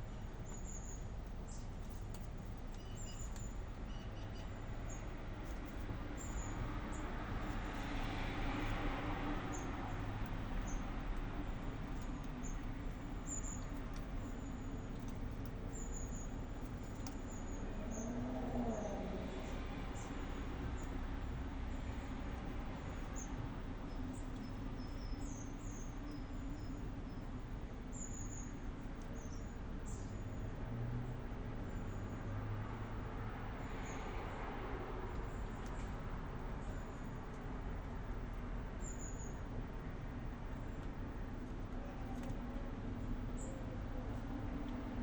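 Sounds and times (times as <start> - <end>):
city traffic rumble: 0.0 - 45.0
small birds chirping: 0.0 - 45.0.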